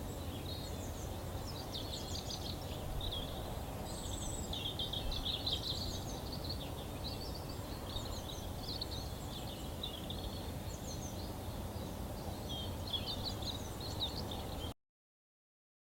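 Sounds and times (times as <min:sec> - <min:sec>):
birds twittering: 0:00.0 - 0:14.7.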